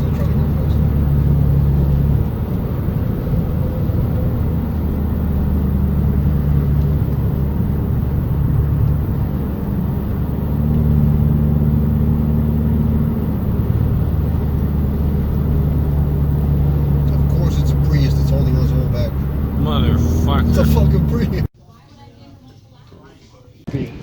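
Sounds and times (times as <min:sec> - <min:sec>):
car road and engine drone: 0:00.0 - 0:21.5.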